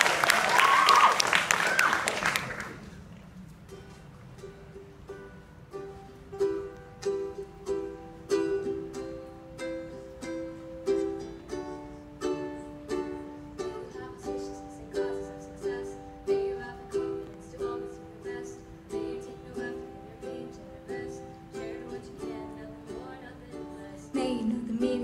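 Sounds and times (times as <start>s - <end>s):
ukulele strumming chords: 3.3s - 25.0s.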